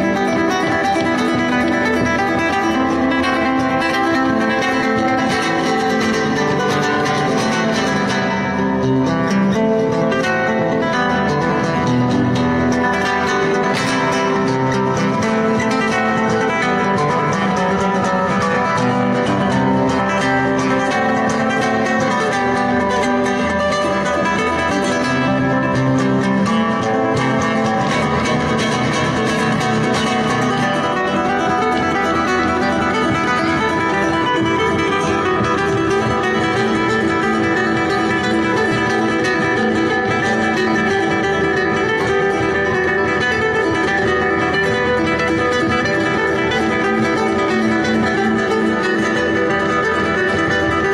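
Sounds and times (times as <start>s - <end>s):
guitar plucked notes and chords: 0.0s - 50.9s.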